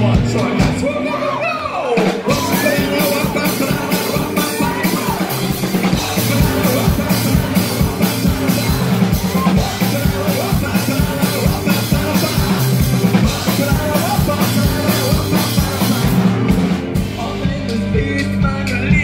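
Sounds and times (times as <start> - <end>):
live rock band: 0.0 - 19.0
fast drum beat: 1.9 - 19.0.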